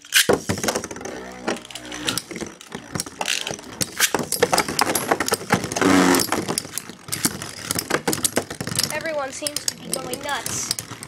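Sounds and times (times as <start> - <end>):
spinning tops clicking and clattering: 0.0 - 11.0
spinning tops whirring: 0.0 - 11.0.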